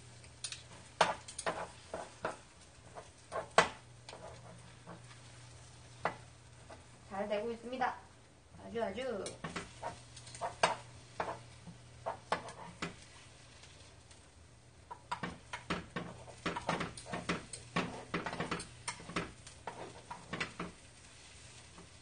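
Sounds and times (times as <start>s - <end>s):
utensil tapping frying pan: 0.0s - 7.1s, 9.2s - 22.0s.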